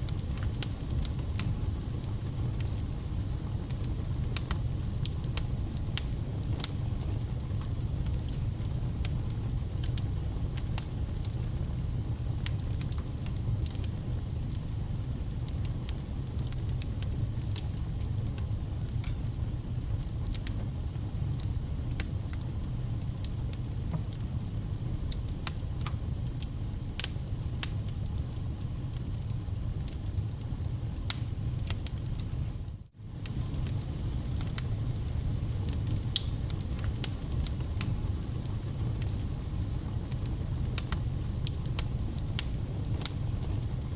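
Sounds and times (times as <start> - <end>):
fire crackling and popping: 0.0 - 43.9
fire low rumble: 0.0 - 43.9.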